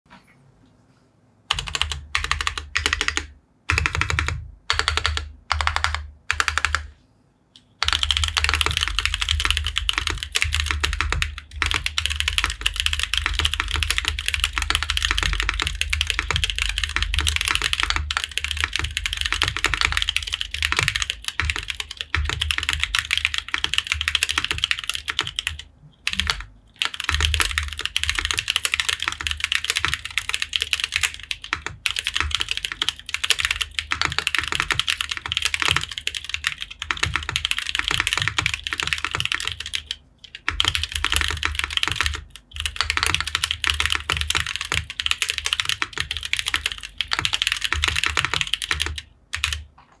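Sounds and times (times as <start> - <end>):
fast typing on mechanical keyboard: 1.5 - 6.9, 7.8 - 49.7.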